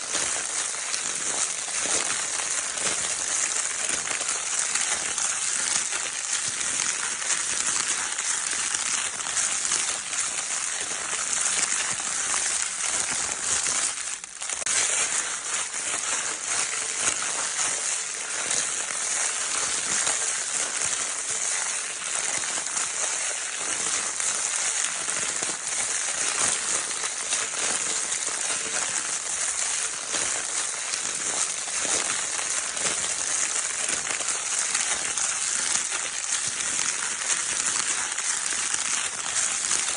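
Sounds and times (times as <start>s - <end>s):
crinkle paper crackling: 0.0s - 39.9s.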